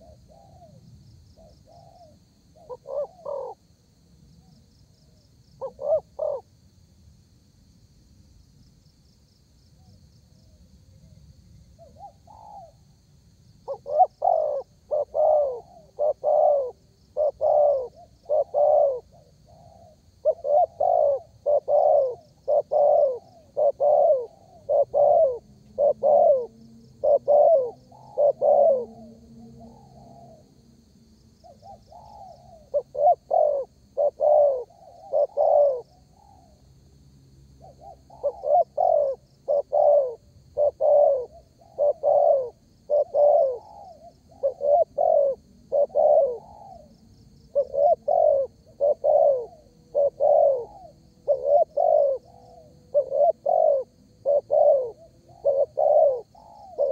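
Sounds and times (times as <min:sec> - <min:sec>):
dove cooing: 0:00.0 - 0:03.7, 0:05.6 - 0:06.5, 0:11.8 - 0:12.9, 0:13.6 - 0:30.6, 0:31.4 - 0:36.6, 0:37.6 - 0:56.9.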